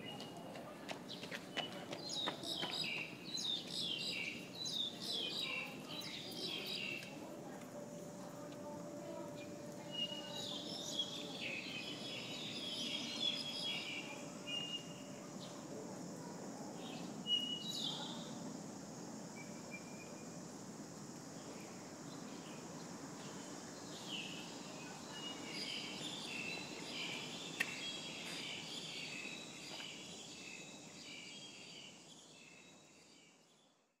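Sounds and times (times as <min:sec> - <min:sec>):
small birds chirping: 0:00.0 - 0:07.6, 0:08.6 - 0:15.6, 0:16.8 - 0:18.3, 0:21.4 - 0:33.7
steady high hiss: 0:02.8 - 0:33.7.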